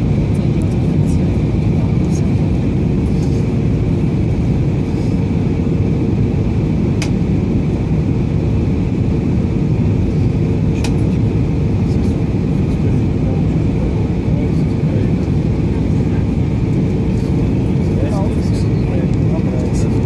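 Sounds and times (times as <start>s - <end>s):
airplane cabin engine roar: 0.0s - 20.0s
steady hum: 0.0s - 20.0s.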